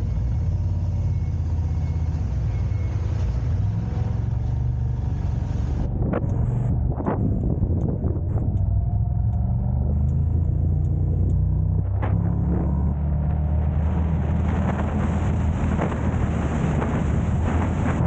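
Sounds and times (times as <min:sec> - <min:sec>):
car engine and road drone: 0:00.0 - 0:18.0
rushing wind and road noise: 0:00.0 - 0:18.0.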